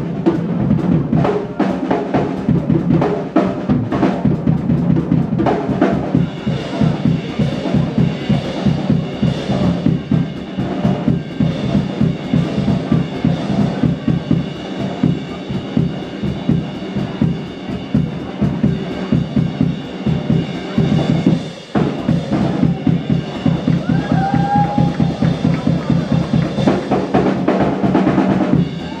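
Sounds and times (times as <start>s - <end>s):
blues band playing: 0.0s - 29.0s
drum kit beat: 0.0s - 29.0s.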